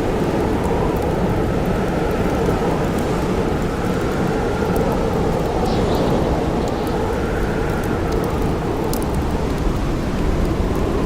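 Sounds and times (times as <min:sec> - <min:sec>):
blizzard wind blowing: 0:00.1 - 0:11.0.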